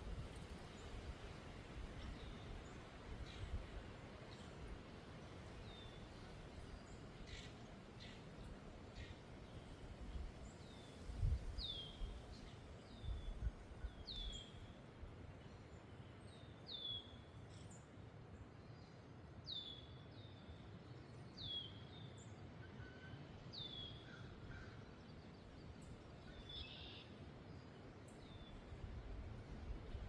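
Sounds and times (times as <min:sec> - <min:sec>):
faint low wind rumble: 0:00.0 - 0:30.0.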